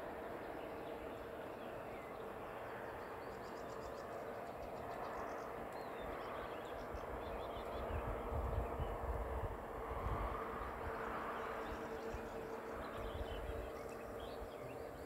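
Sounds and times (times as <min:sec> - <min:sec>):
small birds chirping: 0:00.1 - 0:09.2, 0:10.2 - 0:15.0.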